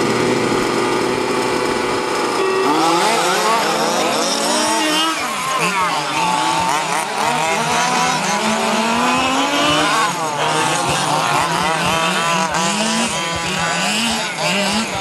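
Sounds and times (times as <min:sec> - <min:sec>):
small two-stroke engines buzzing: 0:00.0 - 0:15.0.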